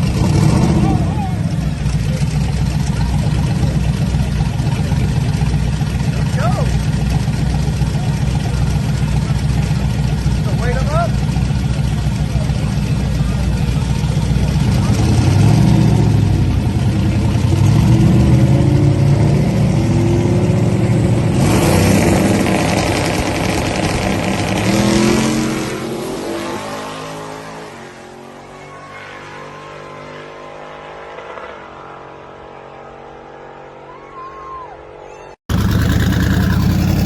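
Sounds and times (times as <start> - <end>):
drag car engine at full throttle: 0.0 - 34.1, 35.5 - 37.0.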